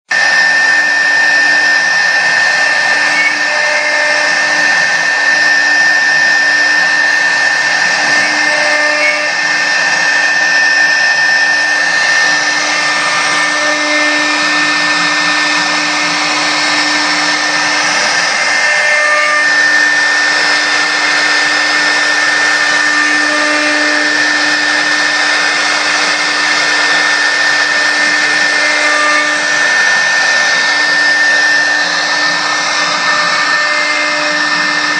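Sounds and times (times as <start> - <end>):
cnc spindle high whine: 0.1 - 34.9.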